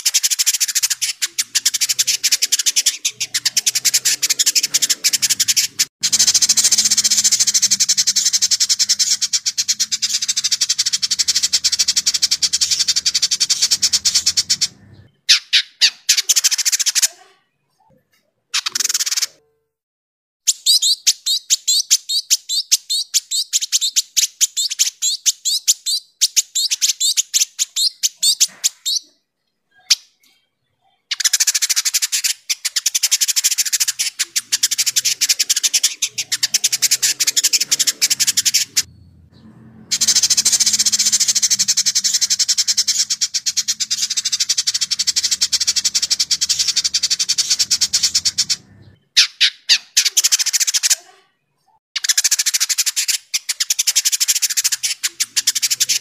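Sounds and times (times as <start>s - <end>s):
bird chattering: 0.0s - 17.3s, 20.5s - 30.3s, 30.9s - 51.2s, 52.0s - 56.0s.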